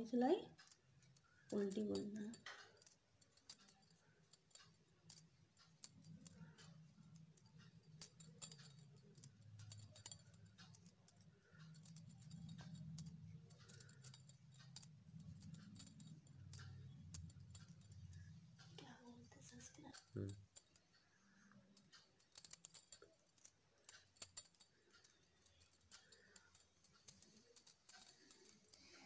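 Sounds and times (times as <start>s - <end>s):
knitting needles clicking: 0.0s - 29.0s.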